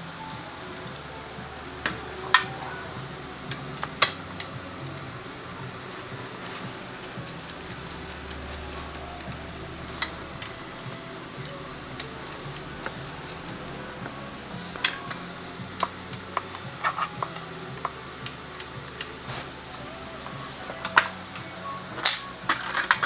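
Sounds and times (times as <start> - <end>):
faint background music: 0.0 - 23.0.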